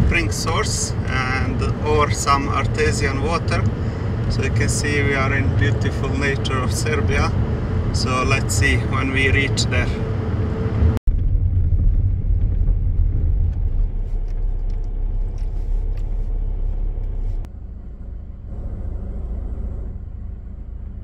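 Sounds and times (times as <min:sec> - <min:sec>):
car driving rumble from inside: 0:00.0 - 0:21.0.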